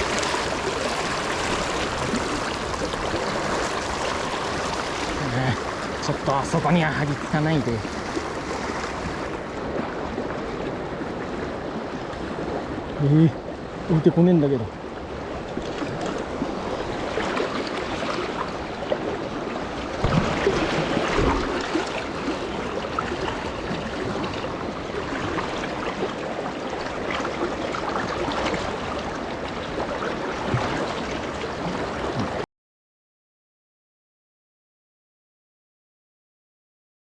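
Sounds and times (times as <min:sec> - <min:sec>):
river water rushing: 0:00.0 - 0:32.4.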